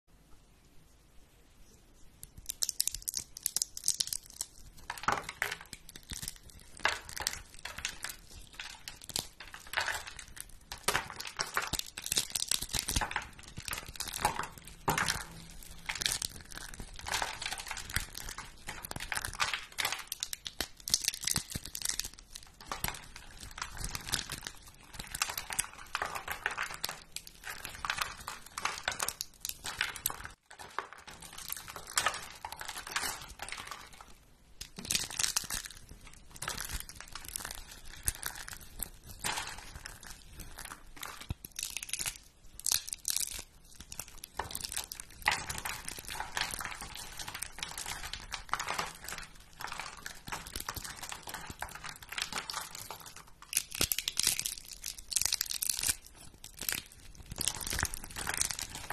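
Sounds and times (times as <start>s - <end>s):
plastic sheets crunching and crinkling: 2.5s - 58.9s.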